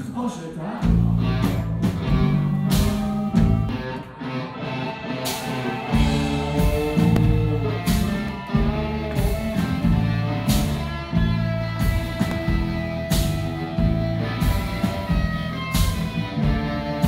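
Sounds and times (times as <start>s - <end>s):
bass: 0.0s - 17.0s
drums: 0.0s - 17.0s
electric guitar: 0.8s - 17.0s.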